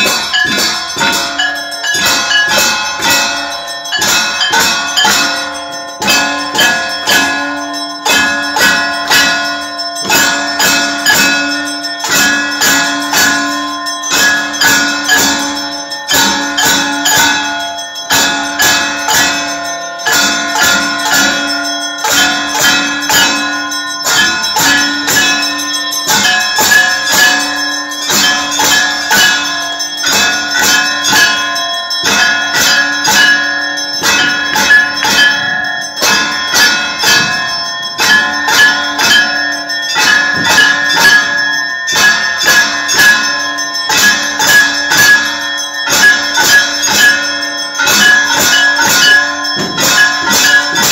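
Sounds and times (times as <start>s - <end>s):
temple bells ringing: 0.0s - 50.9s.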